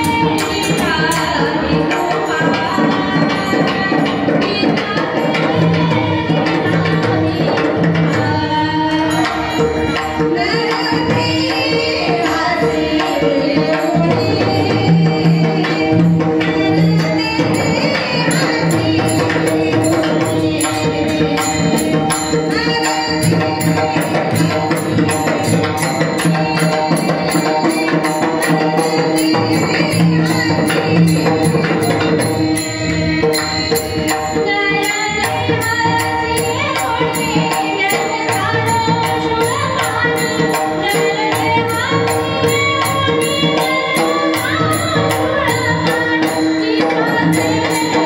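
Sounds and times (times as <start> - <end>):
tabla drumming: 0.0 - 48.0.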